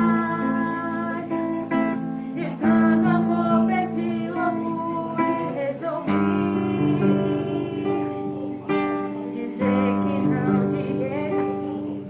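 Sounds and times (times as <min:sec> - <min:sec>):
acoustic guitar strummed: 0:00.0 - 0:12.0
person singing: 0:00.0 - 0:12.0.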